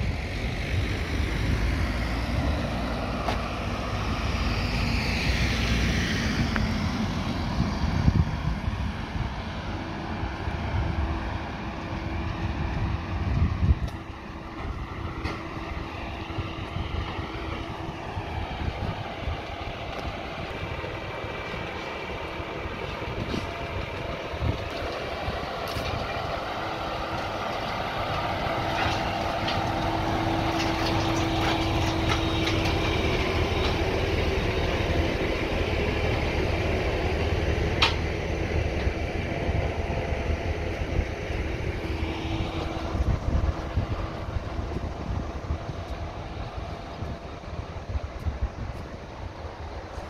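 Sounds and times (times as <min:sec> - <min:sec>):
diesel truck engine: 0:00.0 - 0:50.0
engine whine: 0:00.0 - 0:50.0.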